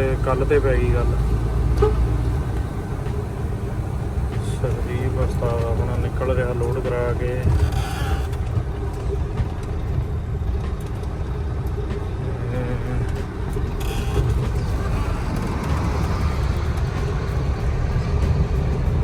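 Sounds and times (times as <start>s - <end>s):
heavy truck engine rumbling: 0.0s - 19.0s.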